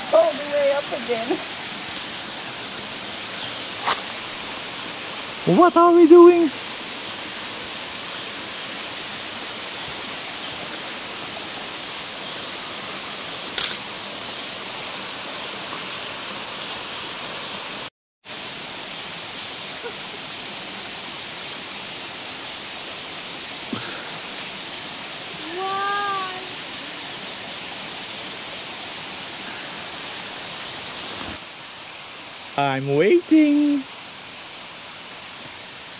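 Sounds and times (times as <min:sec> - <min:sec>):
rocky stream running: 0:00.0 - 0:35.9.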